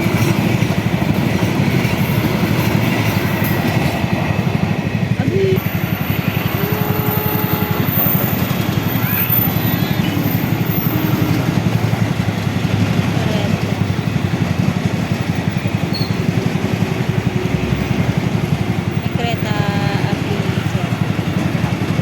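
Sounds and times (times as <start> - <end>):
pulsing vehicle rumble: 0.0 - 22.0.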